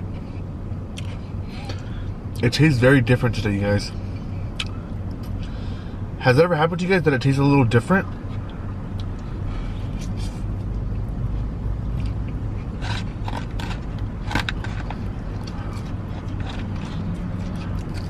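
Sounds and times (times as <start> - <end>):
car interior hum: 0.0 - 18.0.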